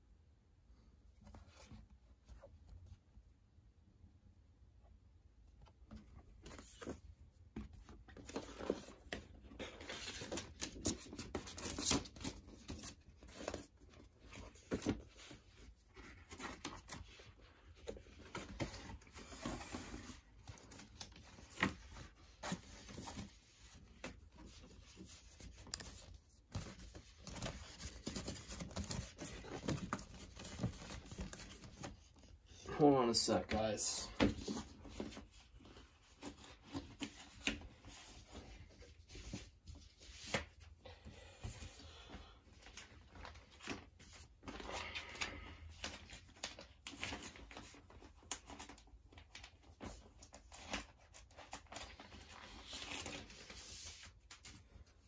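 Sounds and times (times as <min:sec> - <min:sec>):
paper sleeves rustling: 0:05.6 - 0:55.0.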